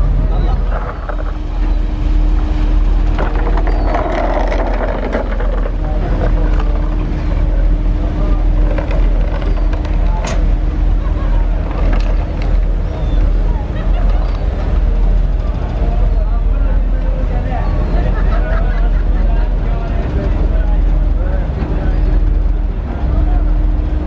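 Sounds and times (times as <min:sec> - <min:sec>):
ferry diesel engines rumbling: 0:00.0 - 0:24.0
propellers churning water: 0:00.0 - 0:24.0
wind on microphone: 0:00.0 - 0:24.0.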